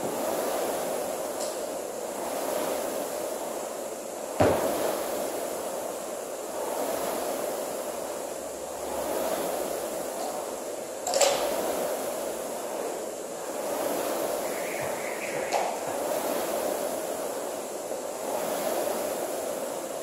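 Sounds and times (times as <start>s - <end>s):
rowing machine flywheel whooshing: 0.0s - 20.0s.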